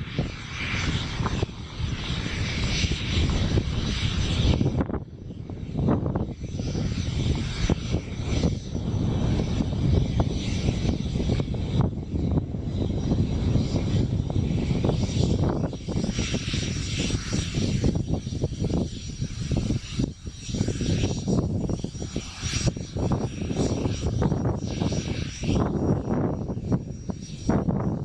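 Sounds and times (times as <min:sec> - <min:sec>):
propeller engines running: 0:00.0 - 0:28.0
wind buffeting microphone: 0:00.0 - 0:28.0.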